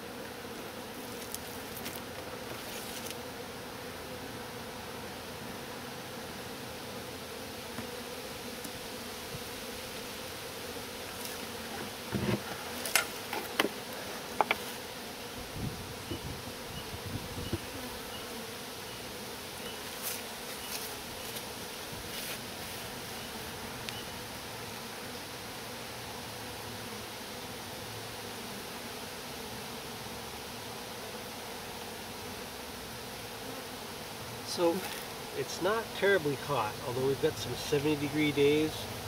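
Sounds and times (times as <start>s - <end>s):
honeybees buzzing: 0.0s - 39.0s.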